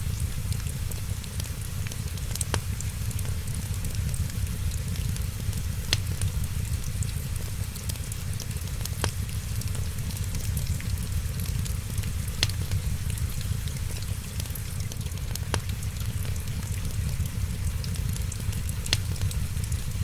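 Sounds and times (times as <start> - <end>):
rain rumbling: 0.0 - 20.0
wood fire crackling: 0.0 - 20.0.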